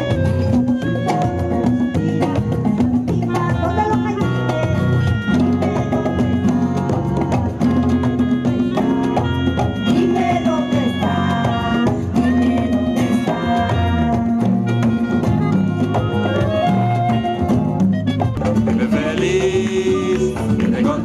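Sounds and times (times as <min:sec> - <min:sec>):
folk band playing instrumental: 0:00.0 - 0:21.0.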